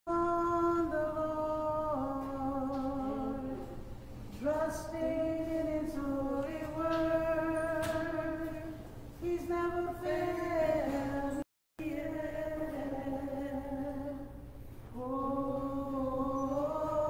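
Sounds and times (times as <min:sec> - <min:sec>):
slow hymn singing: 0:00.1 - 0:17.0.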